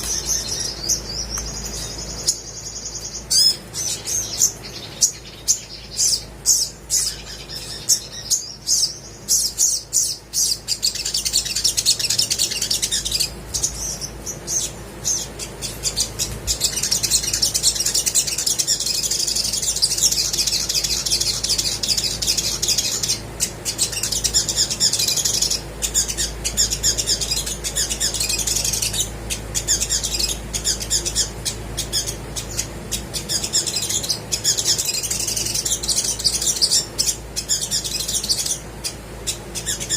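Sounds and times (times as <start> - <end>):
bird chirping and twittering: 0.0 - 39.9
faint low hum: 0.0 - 39.9.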